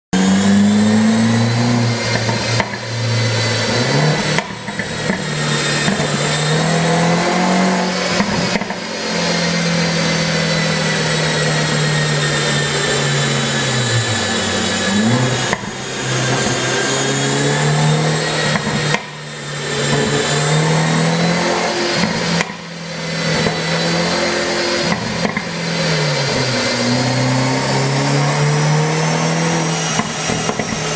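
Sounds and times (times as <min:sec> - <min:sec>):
car engine revving: 0:00.1 - 0:30.9.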